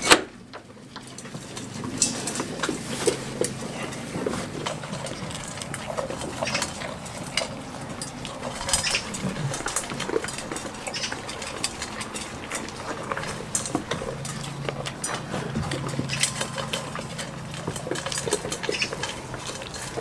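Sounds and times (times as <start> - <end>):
goats crunching feed: 0.0 - 20.0
muzzles clinking metal bowls: 0.7 - 20.0.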